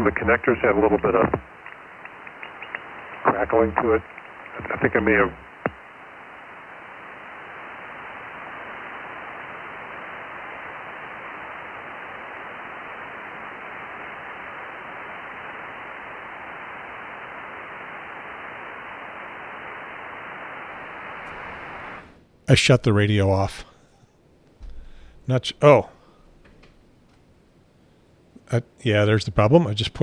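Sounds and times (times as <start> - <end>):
radio receiver hiss: 0.0 - 30.0.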